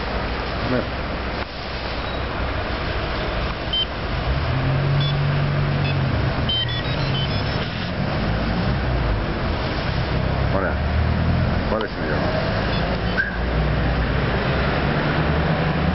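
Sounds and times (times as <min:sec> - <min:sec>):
street traffic: 0:00.0 - 0:15.9.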